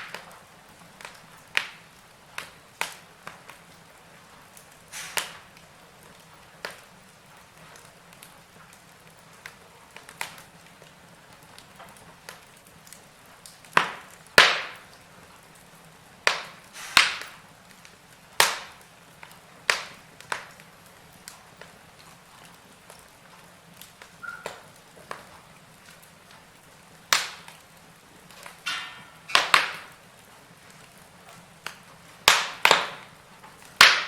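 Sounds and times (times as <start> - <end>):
burning logs crackling and popping: 0.0 - 34.0
low steady fire hiss: 0.0 - 34.0.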